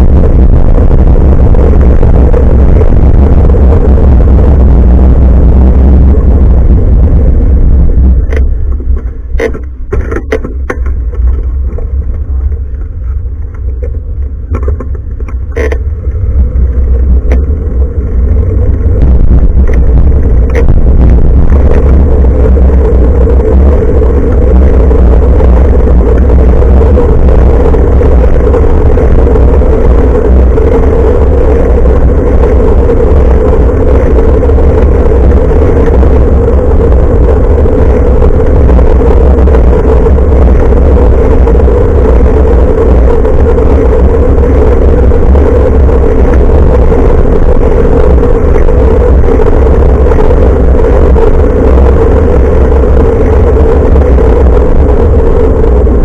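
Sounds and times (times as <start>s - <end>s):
bicycle road rumble: 0.0s - 56.0s
wind buffeting microphone: 0.0s - 56.0s.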